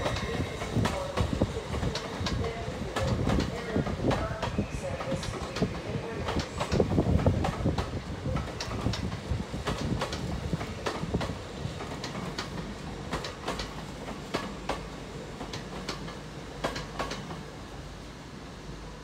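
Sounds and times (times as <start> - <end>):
train wheels clicking over rail joints: 0.0 - 17.5
train low rumble: 0.0 - 19.0.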